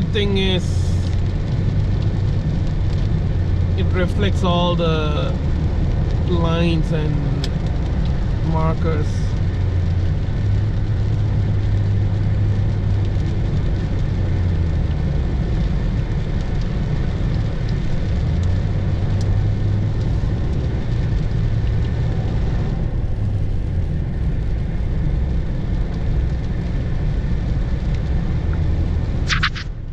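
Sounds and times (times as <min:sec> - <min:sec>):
car cabin road noise: 0:00.0 - 0:29.9.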